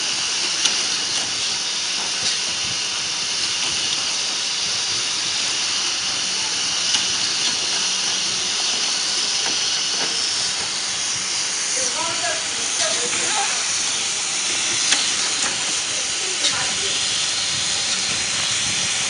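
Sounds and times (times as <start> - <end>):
hot air hissing from machine: 0.0 - 19.0.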